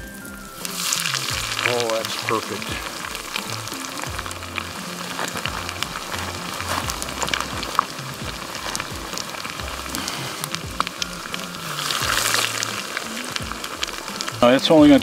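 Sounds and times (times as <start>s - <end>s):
background music: 0.0s - 15.0s
fish frying in oil: 0.0s - 15.0s.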